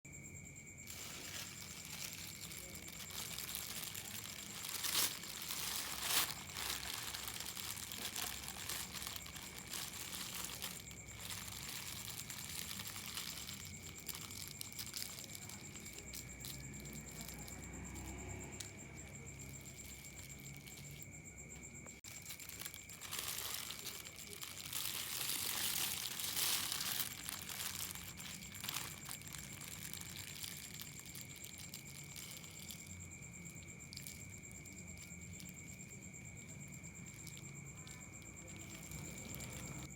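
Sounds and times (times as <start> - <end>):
crinkling handling noise: 0.6 - 39.9.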